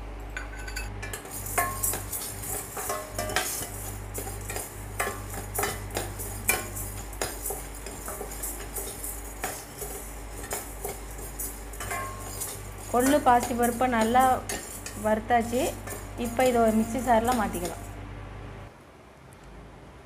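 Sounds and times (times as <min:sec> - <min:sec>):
spoon scraping metal pan: 0:01.0 - 0:17.9
seeds rattling against metal: 0:01.0 - 0:18.0.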